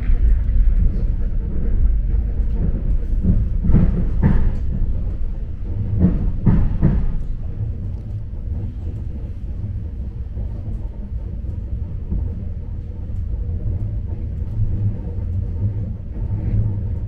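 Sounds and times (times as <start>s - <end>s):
moving train rumbling: 0.0s - 17.0s.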